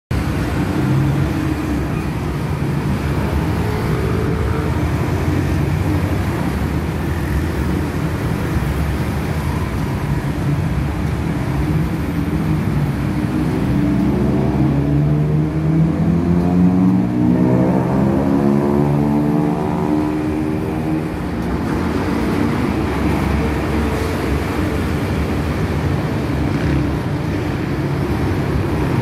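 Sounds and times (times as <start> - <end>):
vehicles passing: 0.1 - 29.0.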